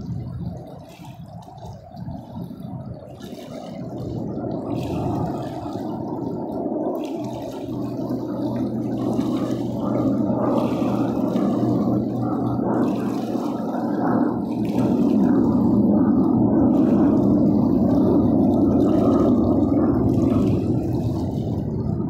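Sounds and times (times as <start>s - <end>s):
steady low hum: 0.0s - 22.0s
jet engines roaring: 3.0s - 22.0s.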